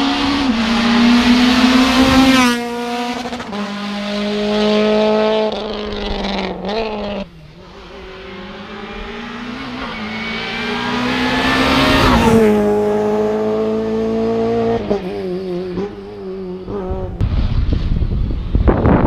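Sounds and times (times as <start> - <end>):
rally car engine passing: 0.0 - 17.8.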